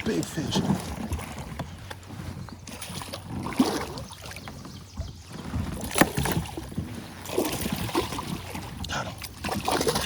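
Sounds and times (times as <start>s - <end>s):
water splashing: 0.0s - 4.7s, 5.3s - 10.0s.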